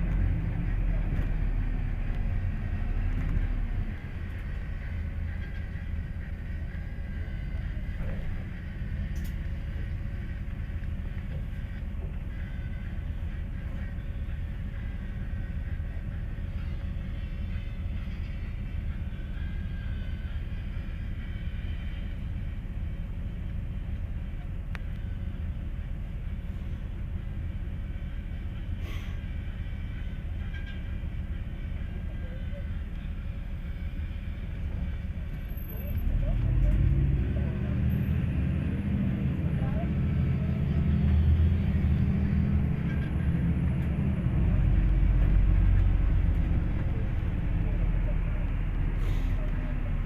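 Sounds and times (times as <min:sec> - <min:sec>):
bus engine and road rumble: 0:00.0 - 0:50.0.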